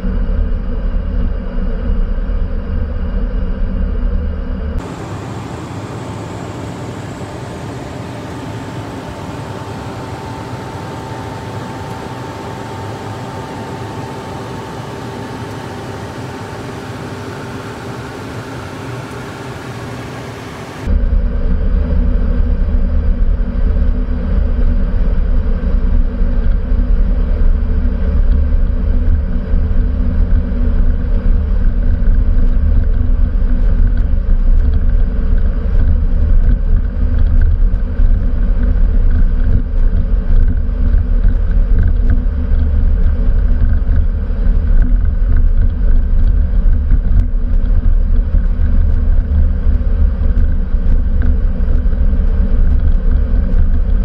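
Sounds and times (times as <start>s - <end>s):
jet cabin engine rumble: 0.0s - 54.0s.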